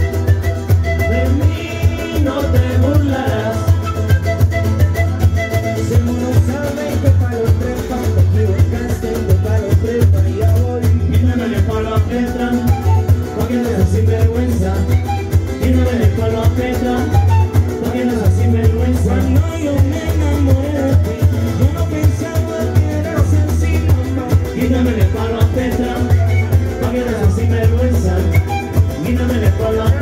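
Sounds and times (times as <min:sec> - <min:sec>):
latin dance music: 0:00.0 - 0:30.0.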